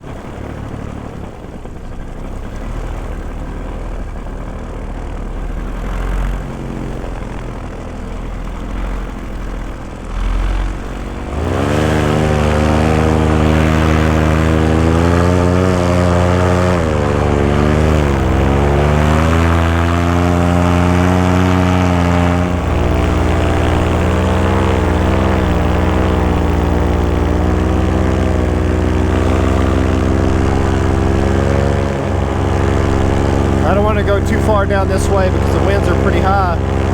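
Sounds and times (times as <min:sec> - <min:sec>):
paramotor engine droning: 0:00.0 - 0:36.9.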